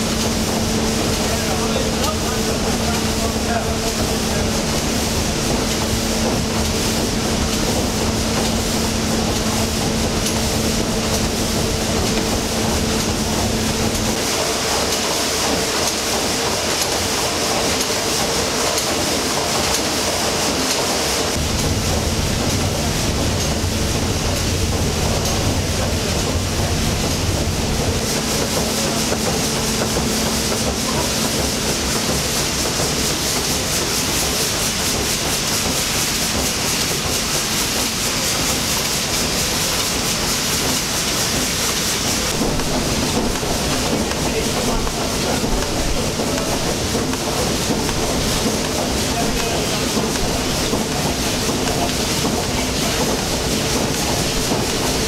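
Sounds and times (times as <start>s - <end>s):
steady hum: 0.0s - 15.7s, 21.2s - 55.0s
steam engine clatter: 0.0s - 55.0s.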